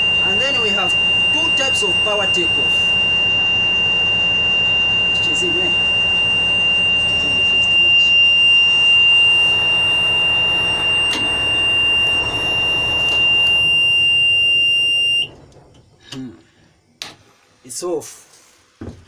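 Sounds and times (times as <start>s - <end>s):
high-pitched warning buzzer: 0.0s - 15.3s.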